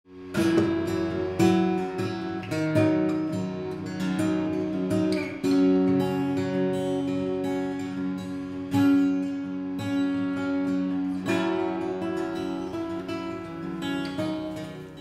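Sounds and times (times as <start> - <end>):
acoustic guitar strumming chords: 0.1 - 15.0.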